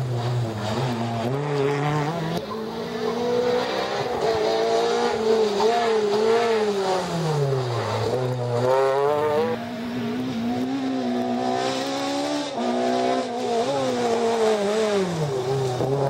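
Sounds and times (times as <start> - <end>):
rally car engines revving: 0.0 - 16.0.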